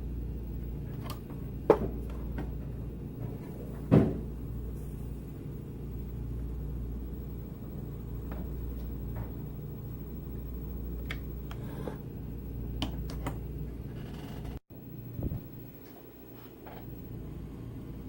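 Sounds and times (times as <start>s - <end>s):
low machinery hum: 0.0s - 18.0s.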